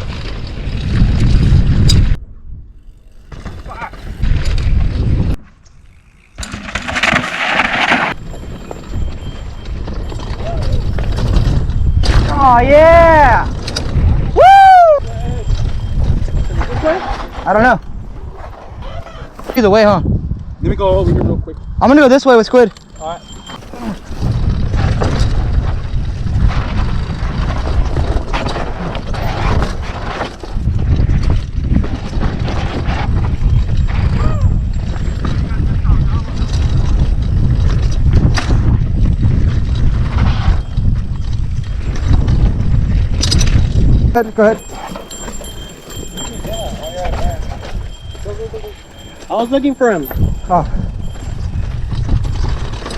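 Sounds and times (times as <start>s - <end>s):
wind buffeting microphone: 0.0s - 6.4s, 8.1s - 52.9s
bike rumbling and rattling: 0.0s - 52.9s.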